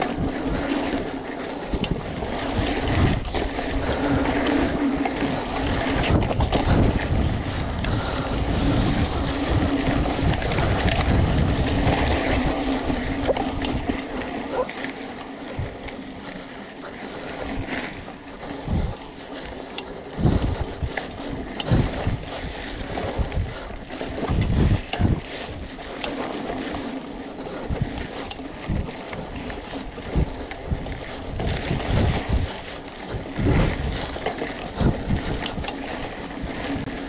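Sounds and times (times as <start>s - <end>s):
bike thumping and rattling: 0.0s - 37.0s
tyres rolling on dirt: 0.0s - 37.0s
wind on microphone: 0.0s - 37.0s.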